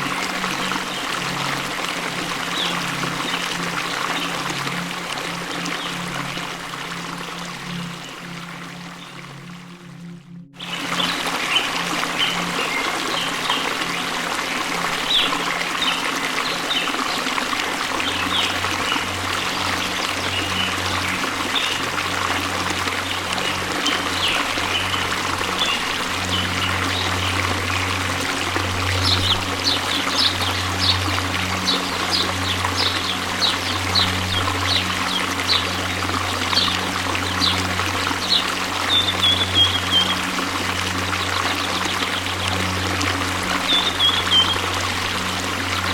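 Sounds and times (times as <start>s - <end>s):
waterfall rushing: 0.0s - 9.2s, 10.6s - 45.9s.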